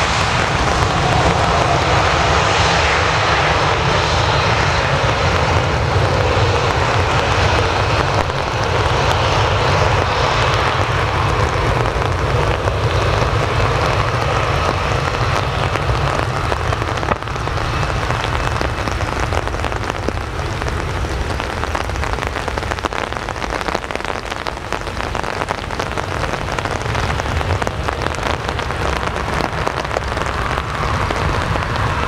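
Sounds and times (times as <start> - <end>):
low rumble: 0.0 - 32.0
rain pattering: 0.0 - 32.0.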